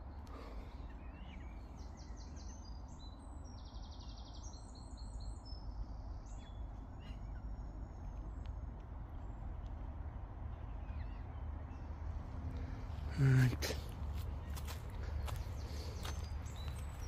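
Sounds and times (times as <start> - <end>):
small birds chirping and trilling: 0.0 - 17.0
steady low rumble: 0.0 - 17.0.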